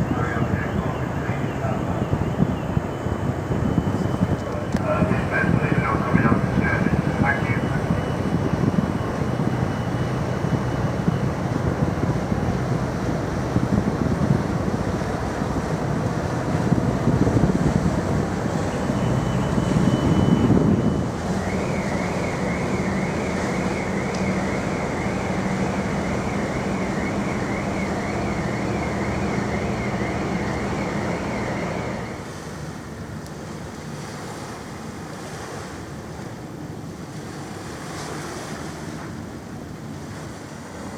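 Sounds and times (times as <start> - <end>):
faint wavering high whine: 0.0 - 33.2
low engine hum: 0.0 - 40.9
wind buffeting microphone: 0.0 - 40.9.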